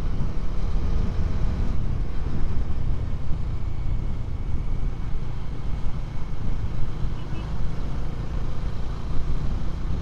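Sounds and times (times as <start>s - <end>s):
gusting wind rumble on microphone: 0.0s - 10.0s.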